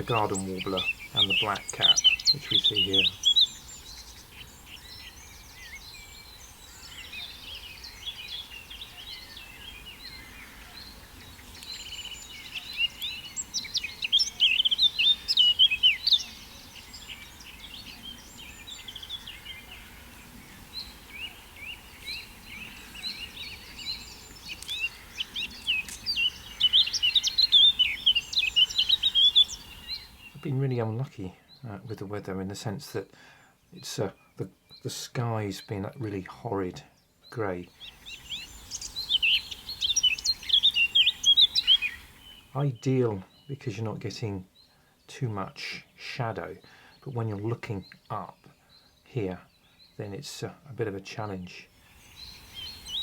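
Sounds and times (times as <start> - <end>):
bird warbling song: 0.0 - 33.0, 33.6 - 53.0.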